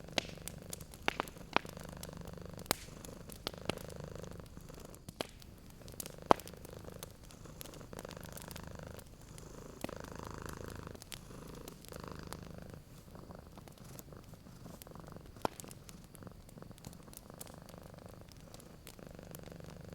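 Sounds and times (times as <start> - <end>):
cat purring: 0.0 - 19.9
wood fire popping and crackling: 0.0 - 19.9.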